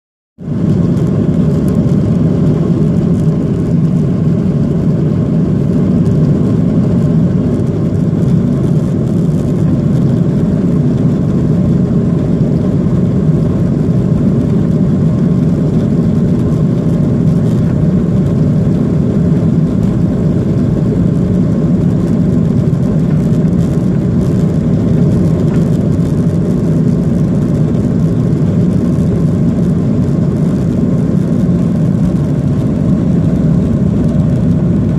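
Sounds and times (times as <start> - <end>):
faint steady whine: 0.4 - 34.9
jet engines rumbling in cabin: 0.4 - 34.9.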